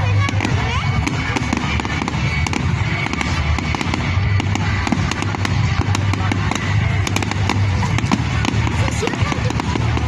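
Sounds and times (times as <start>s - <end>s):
fireworks crackling and cracks: 0.0s - 10.0s
music: 0.0s - 10.0s.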